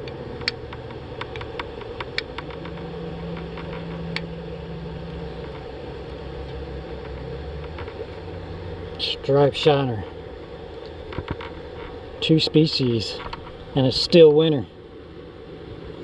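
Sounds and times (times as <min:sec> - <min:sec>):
held low tone: 0:00.0 - 0:14.0
distant engine hum: 0:00.0 - 0:16.0.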